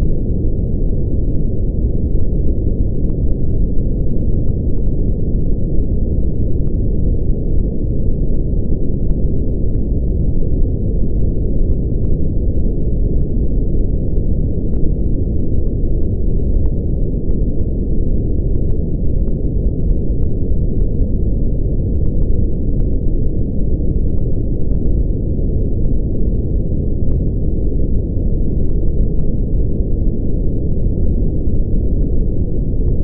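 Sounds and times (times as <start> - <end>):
brown noise rumble: 0.0 - 33.0.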